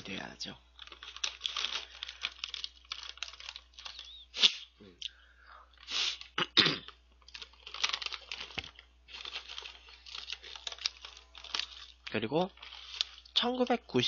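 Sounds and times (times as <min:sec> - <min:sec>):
plastic bag crinkling: 0:00.0 - 0:04.6, 0:07.0 - 0:14.0.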